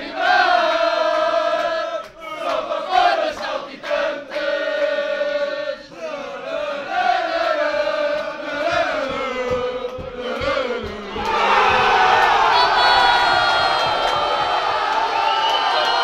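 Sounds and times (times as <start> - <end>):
crowd chanting in unison: 0.0 - 16.0.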